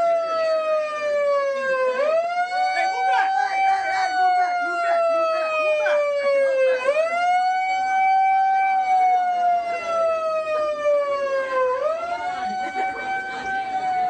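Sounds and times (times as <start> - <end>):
megaphone siren wailing: 0.0 - 14.0.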